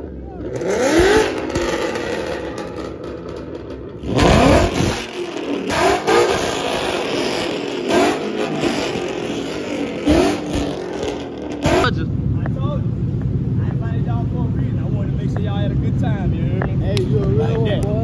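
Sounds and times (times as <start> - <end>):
car engines idling and revving: 0.0 - 18.0.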